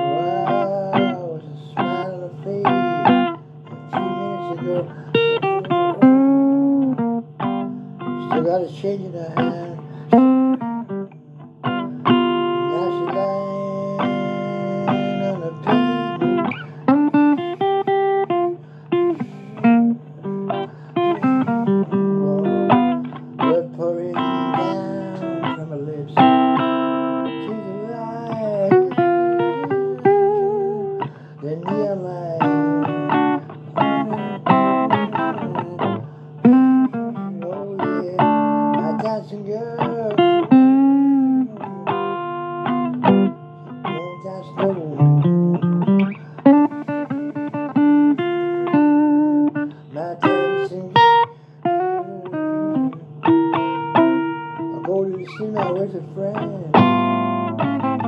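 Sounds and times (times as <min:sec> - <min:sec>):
blues guitar playing: 0:00.0 - 0:58.0.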